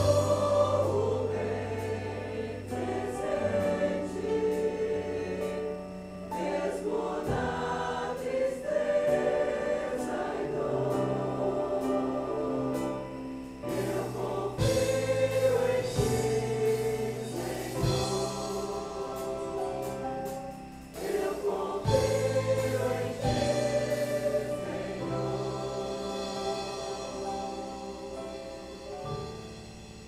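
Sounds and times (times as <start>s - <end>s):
voices singing worship chorus: 0.0s - 30.0s.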